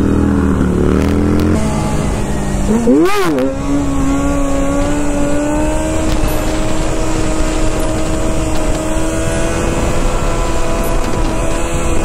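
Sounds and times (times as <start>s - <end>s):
motorcycle engine accelerating: 0.0s - 12.0s
wind on microphone: 0.0s - 12.0s.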